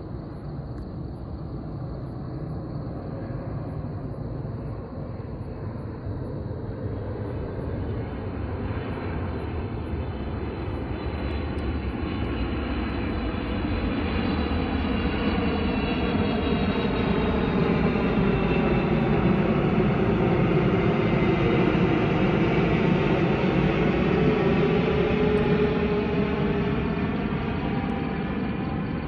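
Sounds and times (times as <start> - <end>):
jet airliner engines rumbling: 0.0 - 29.0.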